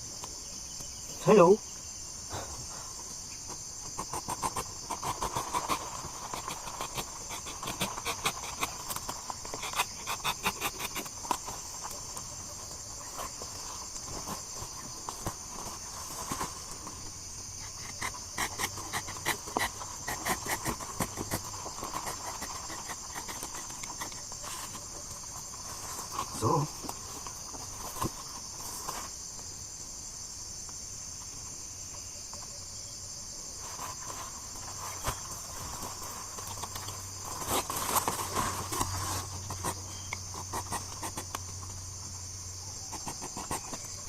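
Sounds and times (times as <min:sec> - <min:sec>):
crickets and insects chorus: 0:00.0 - 0:44.0
rustles: 0:00.0 - 0:44.0.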